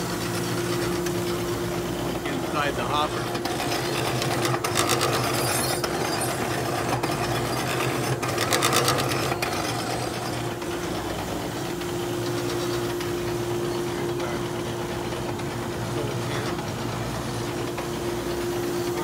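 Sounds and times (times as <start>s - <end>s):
machine drone: 0.0s - 19.0s
steady hum: 0.0s - 19.0s.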